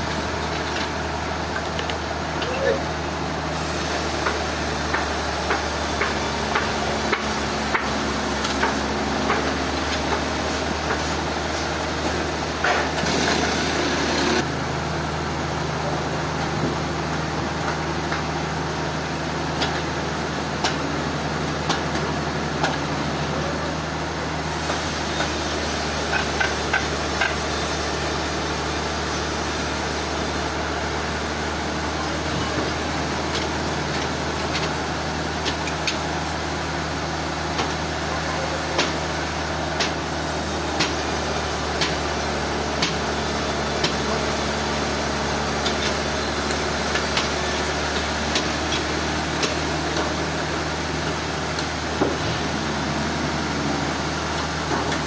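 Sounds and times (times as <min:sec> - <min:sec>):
sawmill machinery humming: 0:00.0 - 0:55.0.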